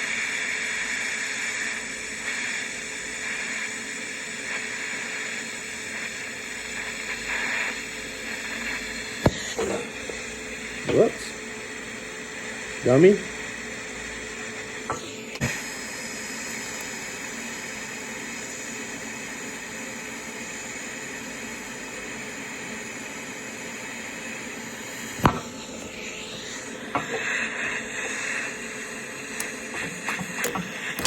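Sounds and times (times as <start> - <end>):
welding arc sizzling hiss: 0.0 - 31.0.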